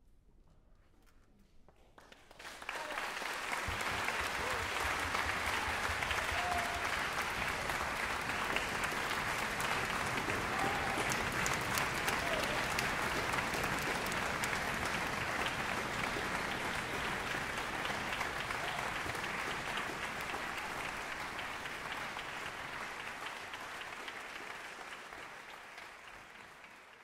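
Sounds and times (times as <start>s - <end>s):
audience applauding: 2.0s - 27.0s.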